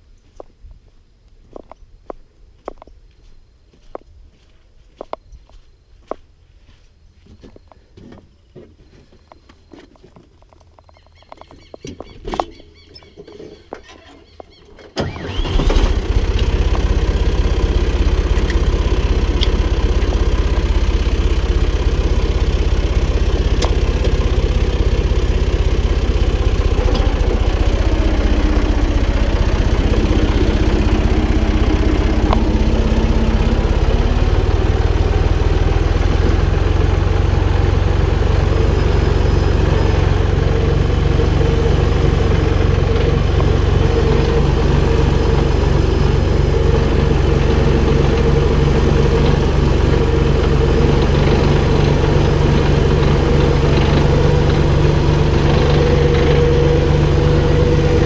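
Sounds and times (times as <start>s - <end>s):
tractor diesel engine running: 10.0s - 58.0s.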